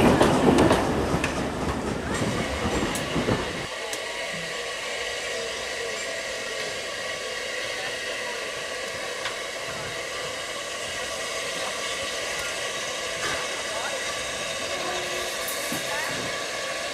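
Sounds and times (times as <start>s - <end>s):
steam locomotive hissing: 0.0s - 16.9s.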